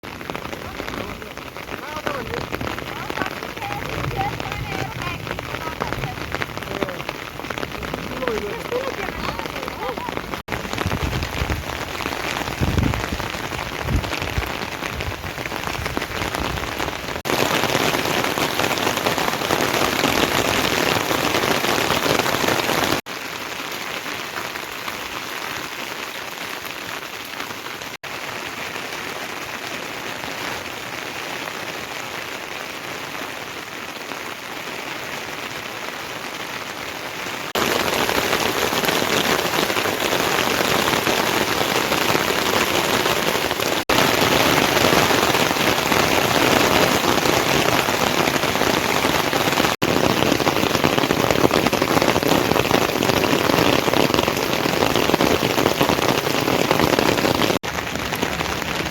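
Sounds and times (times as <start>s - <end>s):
heavy rain hissing: 0.0s - 58.9s.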